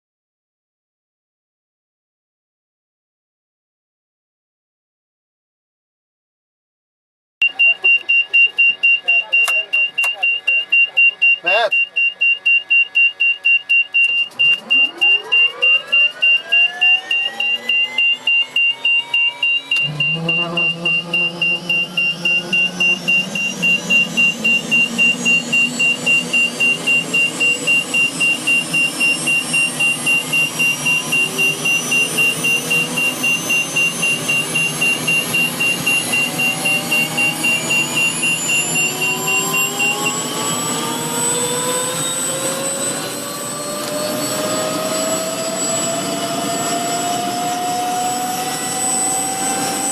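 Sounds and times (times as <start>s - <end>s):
fast pulsing warning beep: 7.4s - 49.9s
turbine engine starting: 7.5s - 49.9s.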